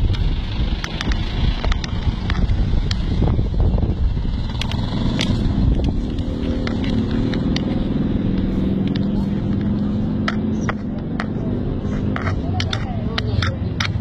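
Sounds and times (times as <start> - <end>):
low rumble: 0.0 - 14.0
vehicle engine running: 0.0 - 14.0.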